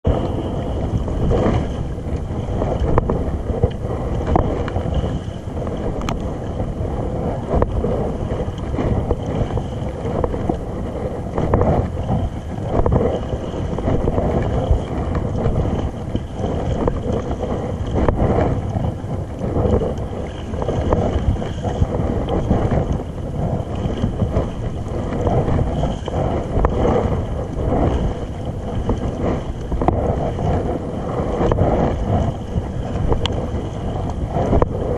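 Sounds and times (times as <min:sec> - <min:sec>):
water sounds: 0:00.0 - 0:34.9
wind rumbling on microphone: 0:00.0 - 0:34.9.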